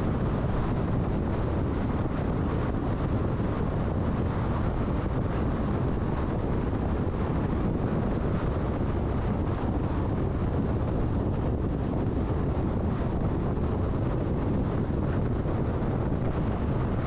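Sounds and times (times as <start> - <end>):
car tyre rumble on road: 0.0 - 17.0
wind noise: 0.0 - 17.0.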